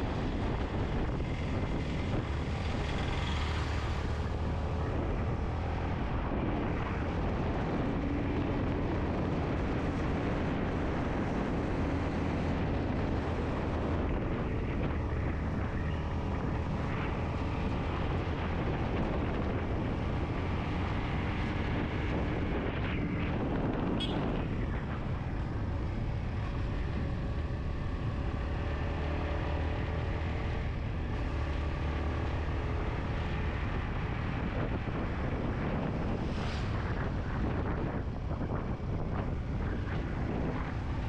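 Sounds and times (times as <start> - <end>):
motorcycle engine cruising: 0.0 - 41.0
road noise: 0.0 - 41.0
wind noise: 0.0 - 41.0.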